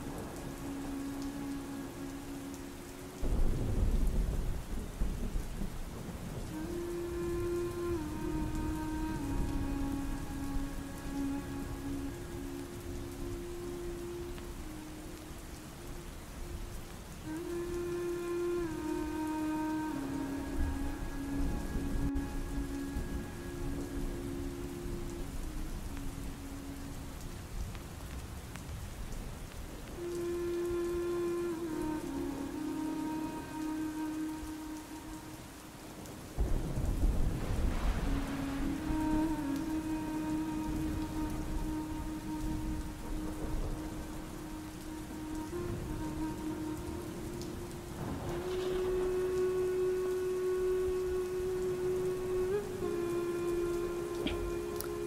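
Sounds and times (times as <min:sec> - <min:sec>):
held musical tones: 0:00.0 - 0:27.8, 0:29.7 - 0:55.0
thunder rumble: 0:00.0 - 0:30.7, 0:31.4 - 0:55.0
rain: 0:00.0 - 0:55.0.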